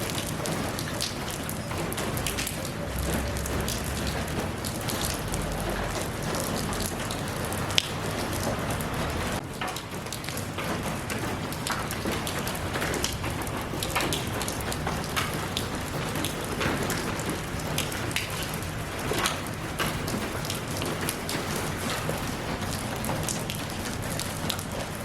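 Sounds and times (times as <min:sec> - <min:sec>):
rain drops tapping: 0:00.0 - 0:25.0.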